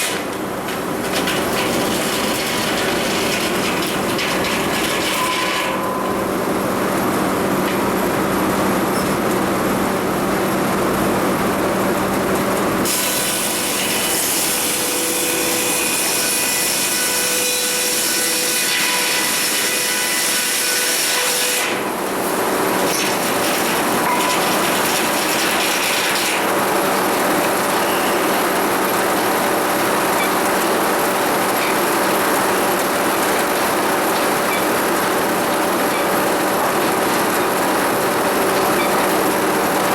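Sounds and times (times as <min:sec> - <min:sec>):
sawmill machinery noise: 0:00.0 - 0:39.9.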